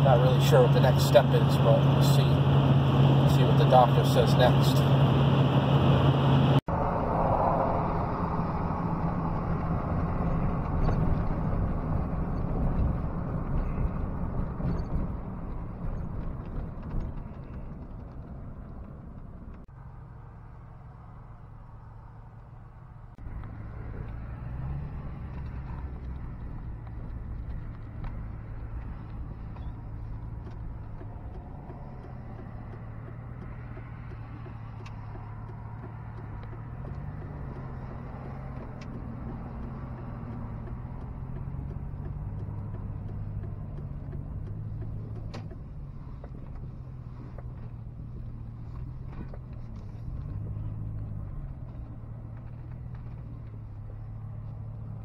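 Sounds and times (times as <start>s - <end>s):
vehicle engine hum from inside cab: 0.0s - 55.0s.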